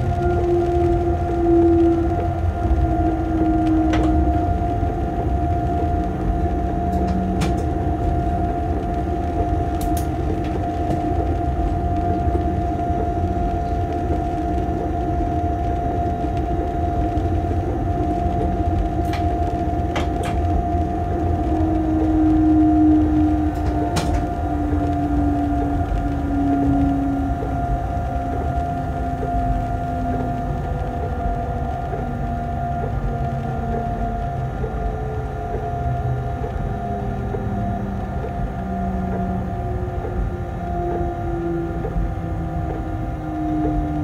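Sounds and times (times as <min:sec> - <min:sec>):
constant whine: 0:00.0 - 0:44.0
low tone: 0:00.0 - 0:44.0.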